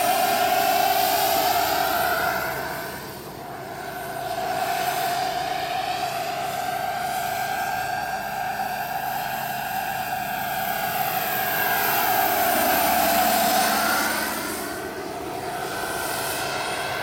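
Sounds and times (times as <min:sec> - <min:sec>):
helicopter rotor noise: 0:00.0 - 0:17.0
turbine whine: 0:00.0 - 0:17.0.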